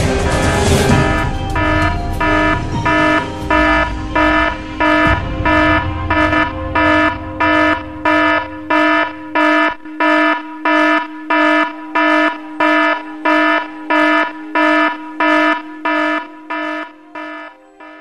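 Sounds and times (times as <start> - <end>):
low rumble: 0.0 - 15.8
electronic alarm buzzer: 0.9 - 18.0.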